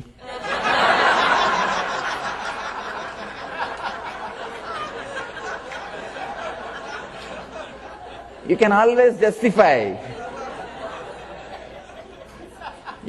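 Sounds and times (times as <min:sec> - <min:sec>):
audience laughing: 0:00.2 - 0:13.0.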